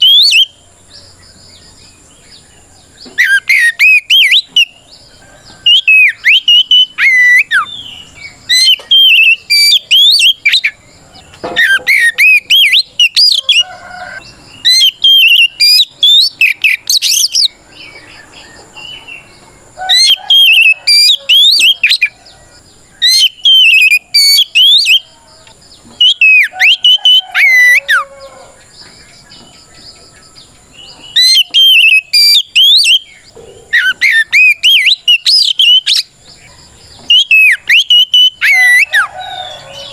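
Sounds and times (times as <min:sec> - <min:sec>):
magpie-robin whistled song: 0:00.0 - 0:39.9.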